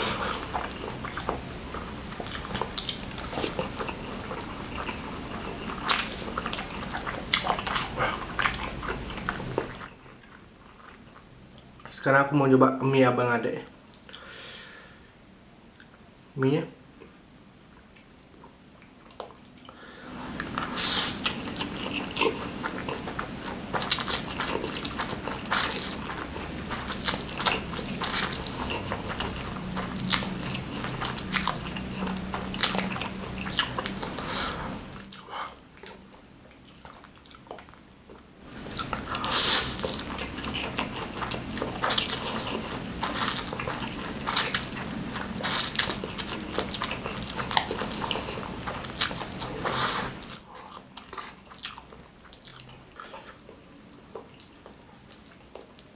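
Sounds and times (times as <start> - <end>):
wet chewing and smacking: 0.0 - 11.9, 20.3 - 55.9.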